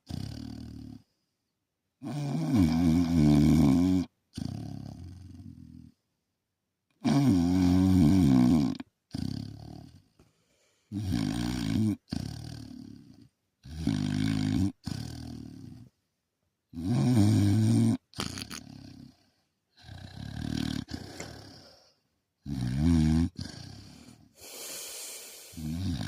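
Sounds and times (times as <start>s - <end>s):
dog snoring: 0.0s - 1.2s, 2.0s - 6.0s, 7.0s - 10.2s, 10.9s - 16.0s, 16.7s - 26.0s.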